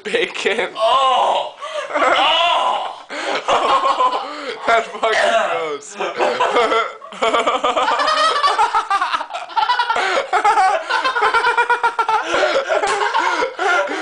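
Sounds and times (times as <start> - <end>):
people laughing hard: 1.6 - 14.0.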